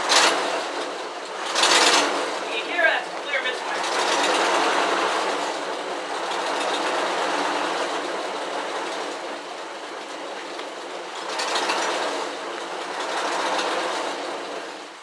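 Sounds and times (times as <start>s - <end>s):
car engine misfiring: 0.0s - 15.0s.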